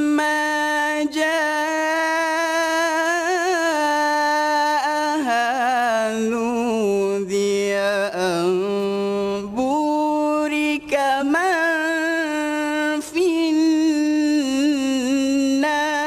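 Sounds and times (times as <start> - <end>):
young man reciting melodically: 0.0 - 16.0.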